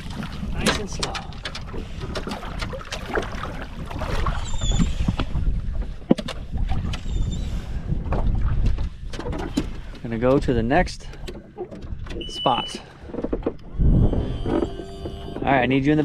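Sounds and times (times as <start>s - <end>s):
wind buffeting microphone: 0.0s - 11.1s, 13.3s - 16.0s.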